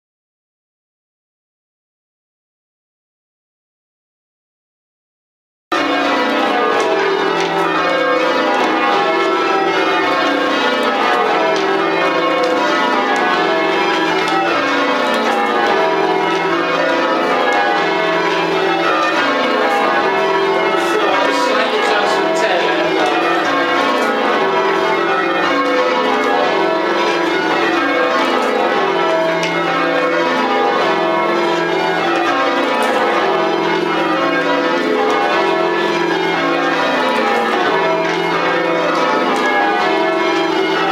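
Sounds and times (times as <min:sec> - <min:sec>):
church bells ringing in rounds: 0:05.7 - 0:40.9.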